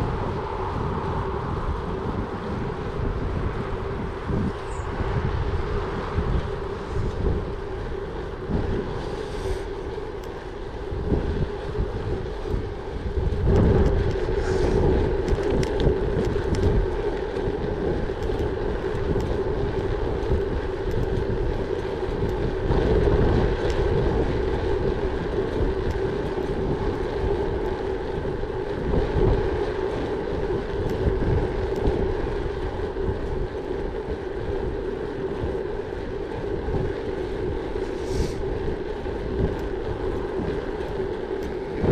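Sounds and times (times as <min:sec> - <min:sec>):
bike tyres rolling: 0:00.0 - 0:41.9
wind buffeting microphone: 0:00.0 - 0:41.9.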